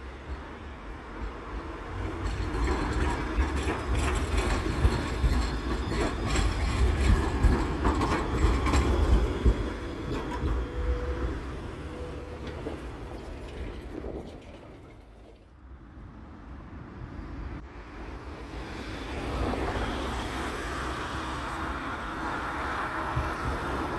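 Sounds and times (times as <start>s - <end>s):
tram wheels clacking over rails: 0.0s - 15.6s, 18.4s - 23.9s
tram running gear rumbling: 0.0s - 23.9s.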